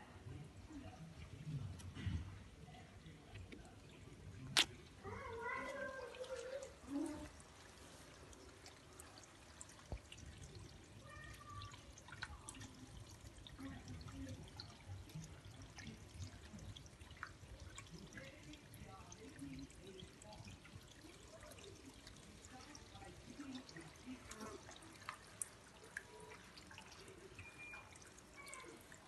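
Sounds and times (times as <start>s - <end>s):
water trickling and dripping: 0.0s - 29.0s.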